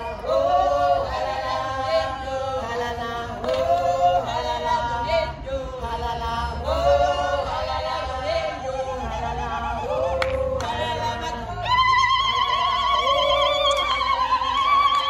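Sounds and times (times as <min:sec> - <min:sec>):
choir chanting without instruments: 0:00.0 - 0:15.0.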